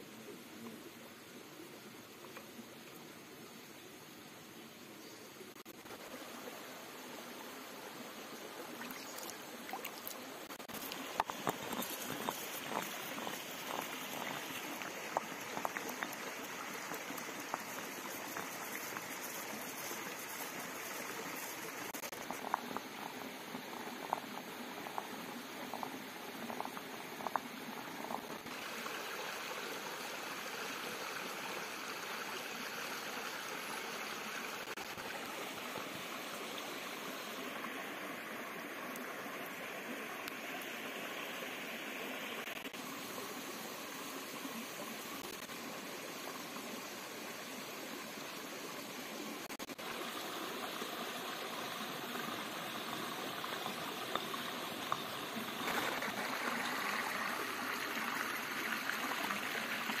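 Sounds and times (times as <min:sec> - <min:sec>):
stream of water running: 0:00.0 - 1:00.0.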